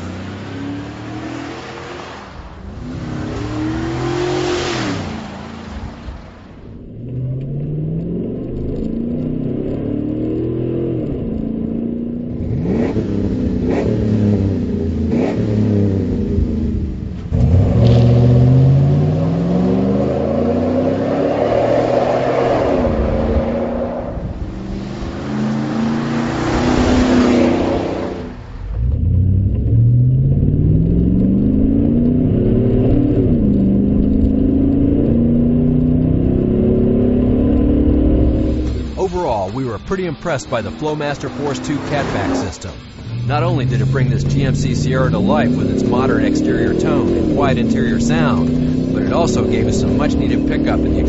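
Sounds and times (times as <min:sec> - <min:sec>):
truck engine revving: 0:00.0 - 0:51.0.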